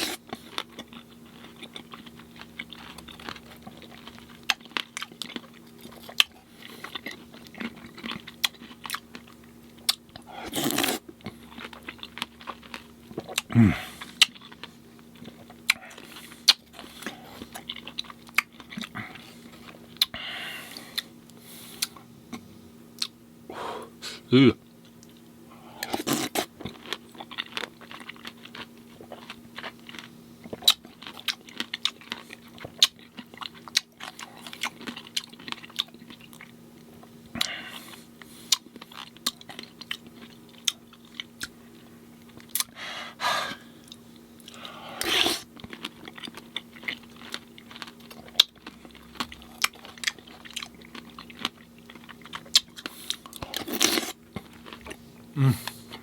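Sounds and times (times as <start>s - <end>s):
person chewing and crunching fruit: 0.0s - 56.0s.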